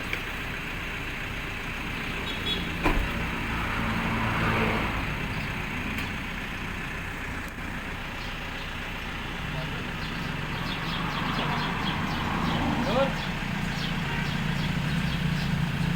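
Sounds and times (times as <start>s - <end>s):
vehicle engine idling: 0.0s - 15.9s.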